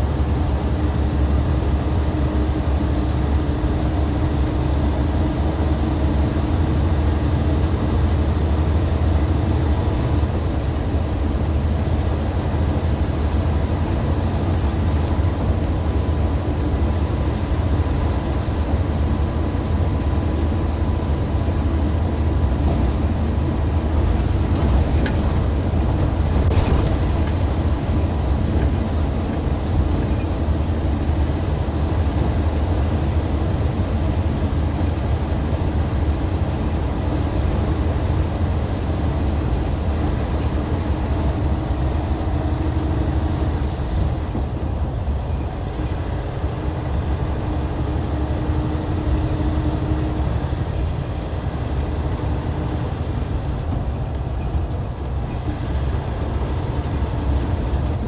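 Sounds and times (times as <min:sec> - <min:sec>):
diesel bus engine droning: 0:00.0 - 0:58.0.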